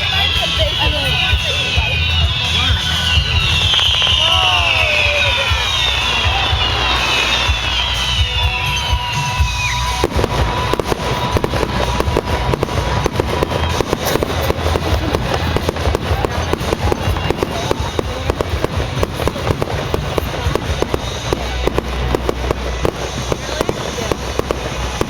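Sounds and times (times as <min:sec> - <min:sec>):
fireworks bangs and crackles: 0:00.0 - 0:25.0
whistling firework shells: 0:00.0 - 0:25.0.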